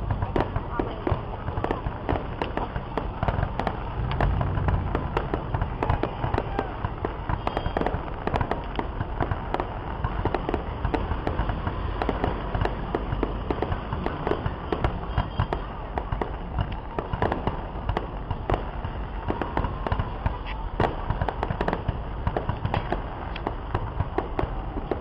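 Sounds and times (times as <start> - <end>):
firework pops and crackles: 0.0 - 25.0
low firework booms: 0.0 - 25.0.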